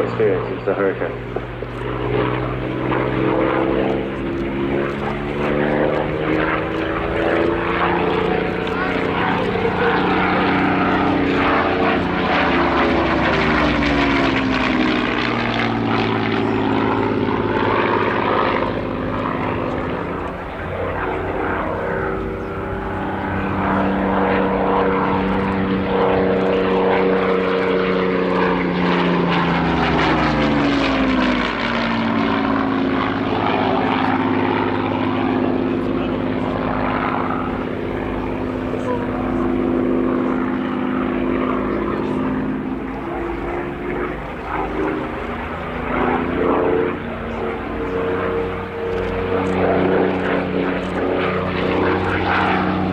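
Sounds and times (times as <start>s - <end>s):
propeller aircraft engine droning: 0.0s - 52.9s.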